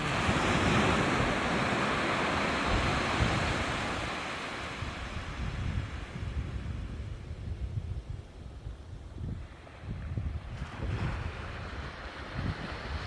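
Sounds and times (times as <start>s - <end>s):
waves breaking on beach: 0.0s - 7.0s, 9.4s - 13.0s
wind buffeting microphone: 0.0s - 13.0s.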